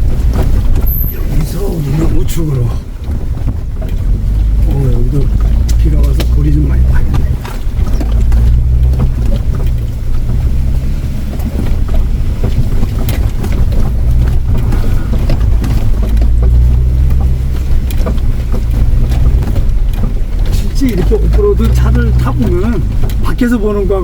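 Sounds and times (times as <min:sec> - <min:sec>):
knocks and rattles from bumps: 0:00.0 - 0:24.0
vehicle engine and road drone: 0:00.0 - 0:24.0.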